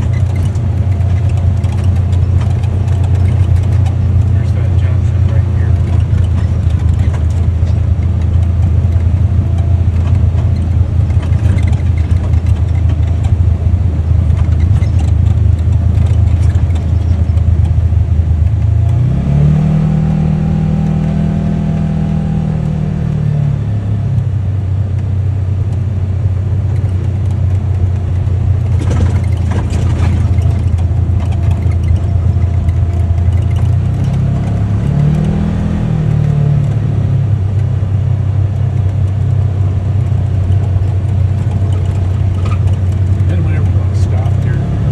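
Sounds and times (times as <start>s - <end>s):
utility vehicle engine running: 0.0s - 44.9s.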